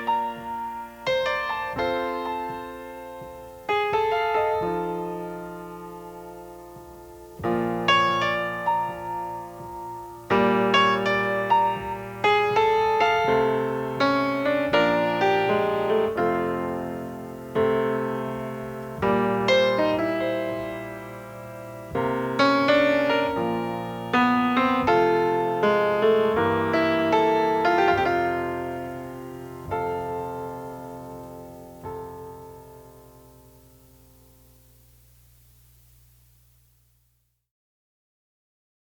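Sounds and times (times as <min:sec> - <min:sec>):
solo piano: 0:00.0 - 0:36.3.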